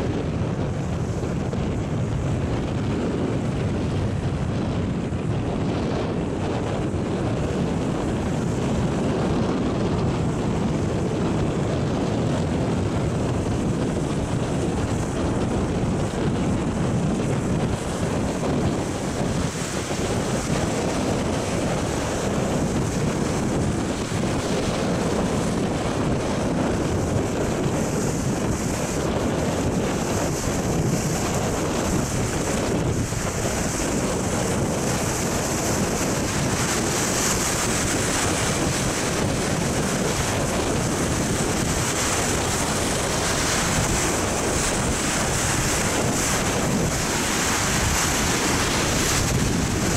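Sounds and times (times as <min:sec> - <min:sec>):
wind buffeting microphone: 0:00.0 - 0:49.9
waves breaking against rocks: 0:00.1 - 0:49.9.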